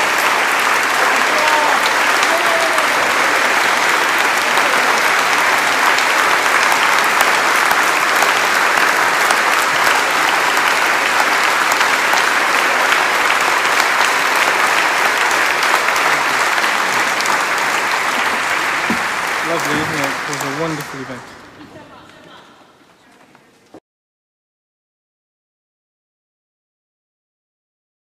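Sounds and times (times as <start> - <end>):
audience applauding: 0.0 - 22.6.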